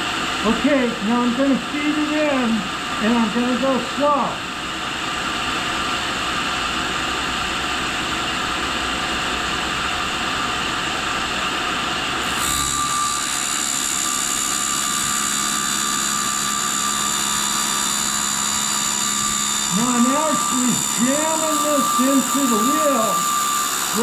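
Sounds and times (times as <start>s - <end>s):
grinder machine running: 0.0s - 24.0s
high grinding whine: 0.0s - 24.0s.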